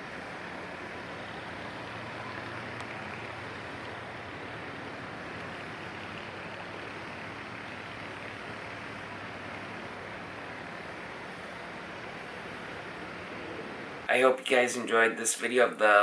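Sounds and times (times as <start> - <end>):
boat engines droning: 0.0 - 16.0
wind: 0.0 - 16.0.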